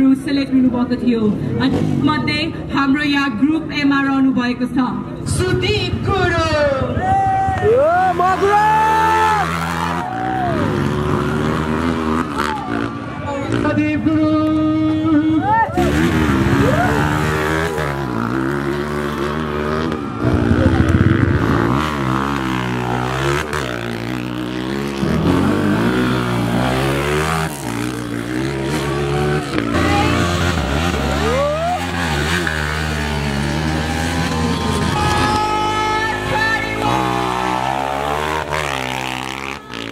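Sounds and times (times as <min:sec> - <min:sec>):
dirt bike engine revving: 0:07.7 - 0:39.9.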